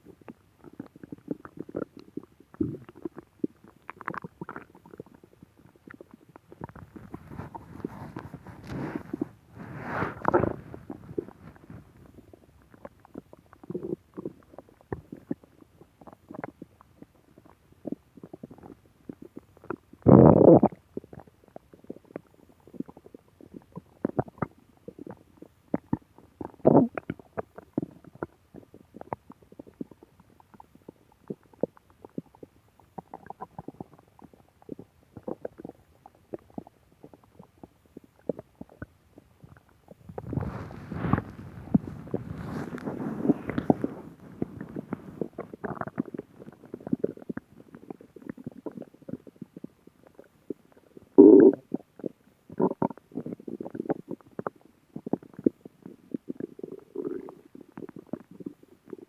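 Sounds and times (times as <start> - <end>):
stomach growling and gurgling: 0.0 - 59.0.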